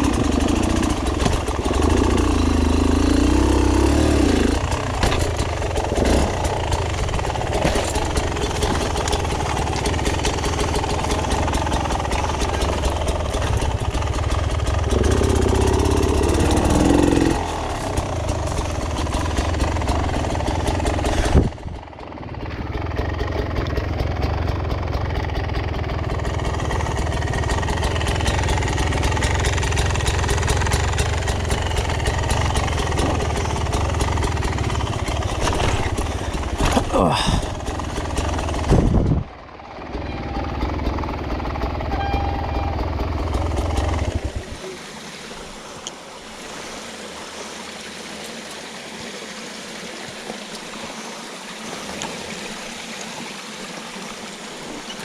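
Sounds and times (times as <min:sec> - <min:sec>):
off-road motorcycle engine revving: 0:00.0 - 0:45.9.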